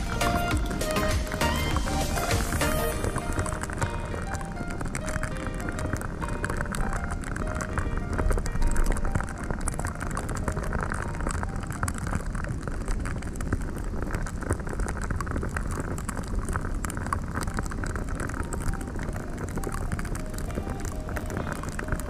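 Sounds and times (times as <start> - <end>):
fine crackle: 0.0 - 22.0.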